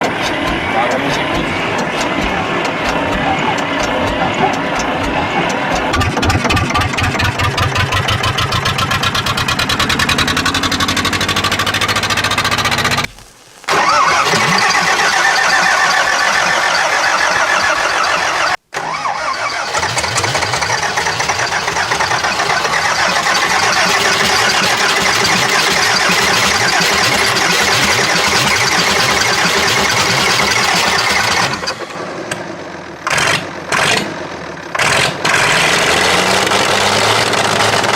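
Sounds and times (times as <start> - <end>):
engine cold-starting: 0.0 - 37.9.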